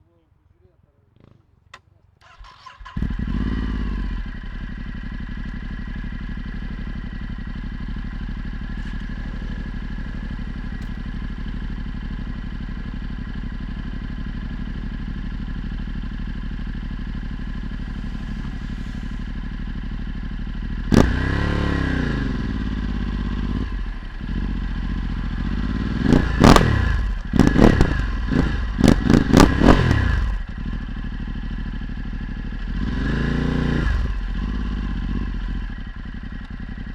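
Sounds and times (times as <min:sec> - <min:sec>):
motorcycle engine idling and revving: 0:01.1 - 0:36.9.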